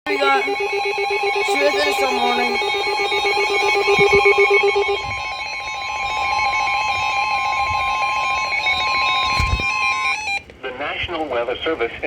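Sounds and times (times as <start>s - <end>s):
emergency alert warning tone: 0.1s - 10.5s.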